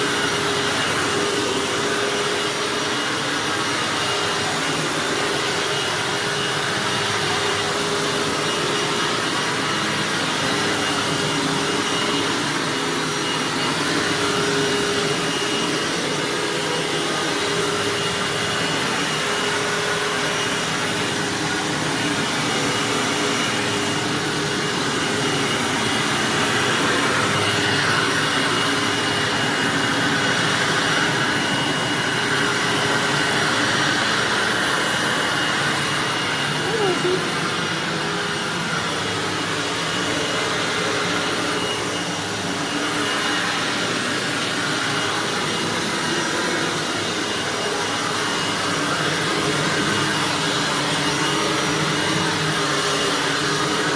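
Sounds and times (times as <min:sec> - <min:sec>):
upright vacuum cleaner running: 0:00.0 - 0:53.9.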